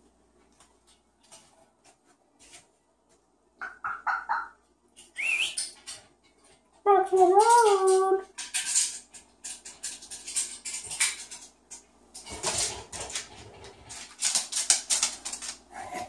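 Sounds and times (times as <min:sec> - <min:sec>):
bird feet tapping on tiles: 0:00.4 - 0:16.0.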